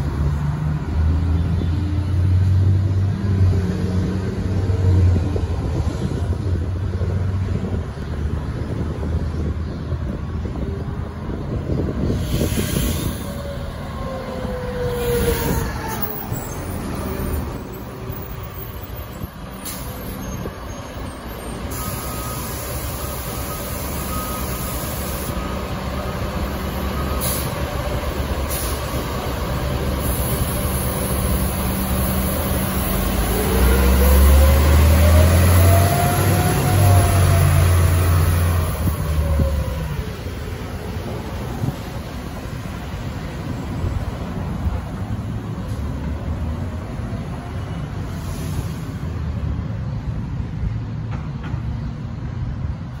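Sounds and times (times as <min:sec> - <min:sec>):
bus engine whining: 0:00.0 - 0:51.4.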